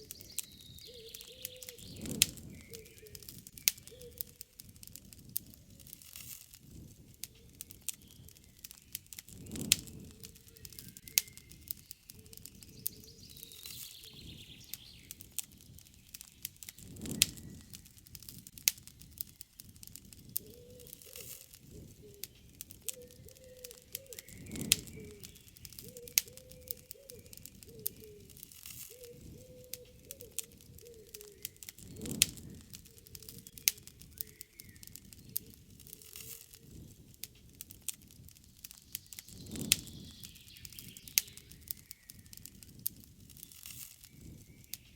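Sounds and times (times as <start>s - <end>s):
faint birds calling: 0.0s - 37.6s, 38.2s - 44.9s
fire snapping loudly: 0.0s - 44.9s
wood campfire crackling: 0.0s - 44.9s.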